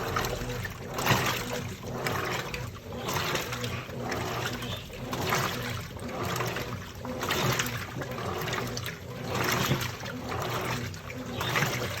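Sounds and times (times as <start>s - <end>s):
low motor hum: 0.0s - 12.0s
water sloshing in washing machine: 0.0s - 12.0s.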